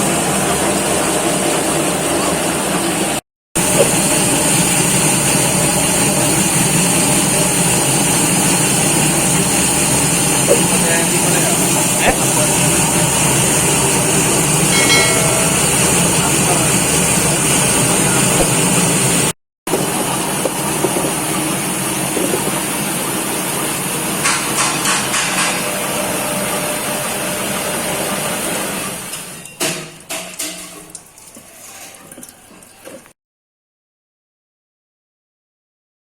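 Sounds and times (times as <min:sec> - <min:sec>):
washing machine motor running: 0:00.0 - 0:24.8, 0:25.5 - 0:33.1.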